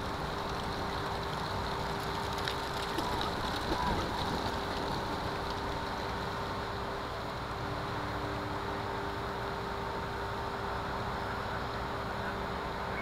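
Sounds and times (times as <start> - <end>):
distant traffic: 0.0 - 13.0
steady hum: 0.0 - 13.0.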